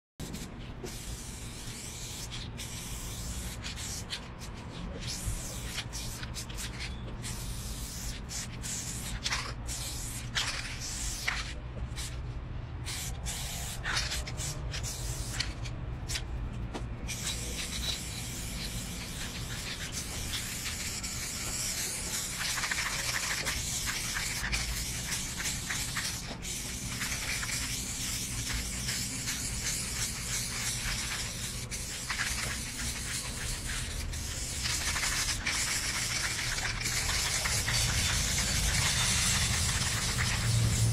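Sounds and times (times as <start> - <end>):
spray paint can hissing: 0.2 - 12.2, 12.8 - 16.3, 17.1 - 40.9.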